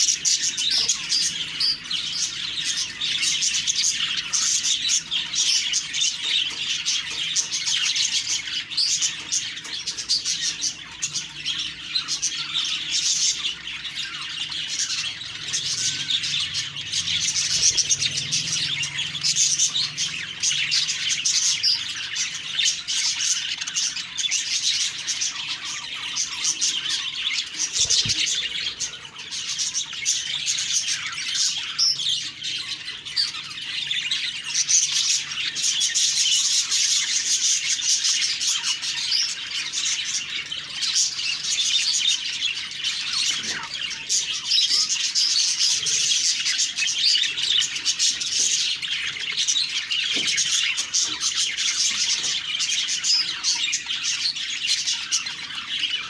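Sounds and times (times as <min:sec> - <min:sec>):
budgerigars chattering: 0:00.0 - 0:56.0.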